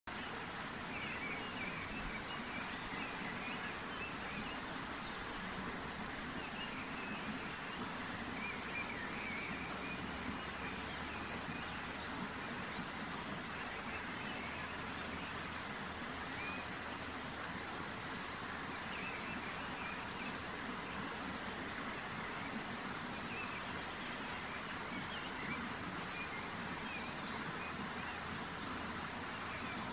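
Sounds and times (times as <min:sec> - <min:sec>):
outdoor background noise: 0:00.1 - 0:29.9.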